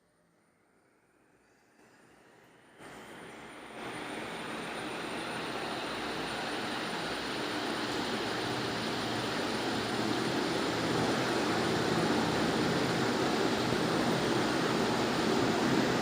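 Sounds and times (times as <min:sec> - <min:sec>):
ceiling fan air rush: 0:00.0 - 0:16.0
faint high fan whine: 0:00.0 - 0:16.0.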